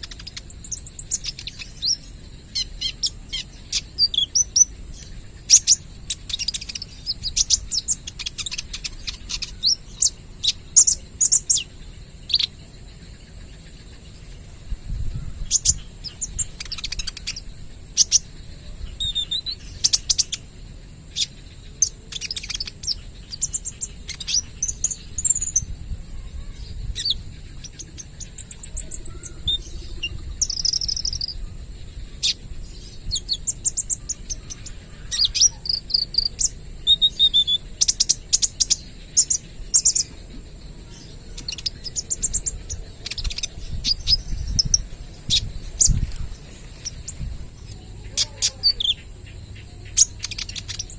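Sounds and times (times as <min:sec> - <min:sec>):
high insect-like hiss: 0:00.0 - 0:50.9
sunbird chirping and trilling: 0:00.0 - 0:50.9.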